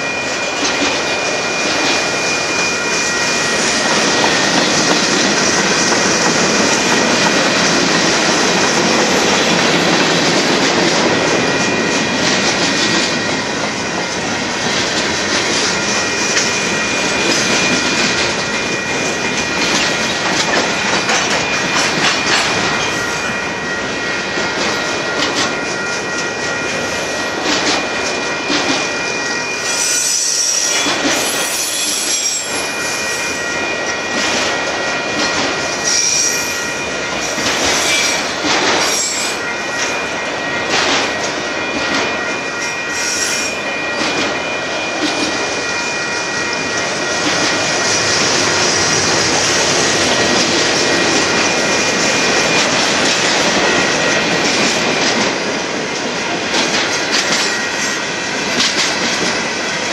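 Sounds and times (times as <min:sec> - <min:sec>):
crossing bell ringing: 0:00.0 - 0:59.9
freight train wheels rumbling: 0:00.0 - 0:59.9.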